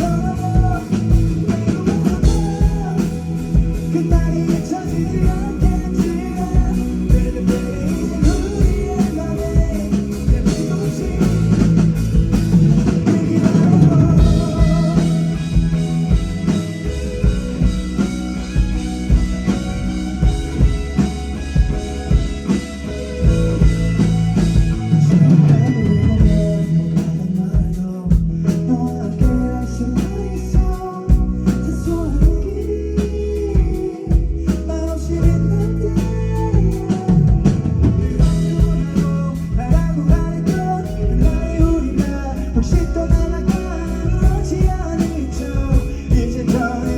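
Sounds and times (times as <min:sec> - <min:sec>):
bass guitar: 0:00.0 - 0:46.9
drum kit beat: 0:00.0 - 0:46.9
electric guitar: 0:00.0 - 0:46.9
woman singing lead vocals: 0:00.0 - 0:46.9.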